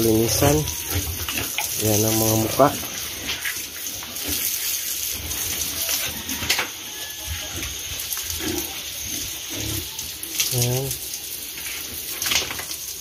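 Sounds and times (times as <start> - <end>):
hose spraying water: 0.0 - 13.0.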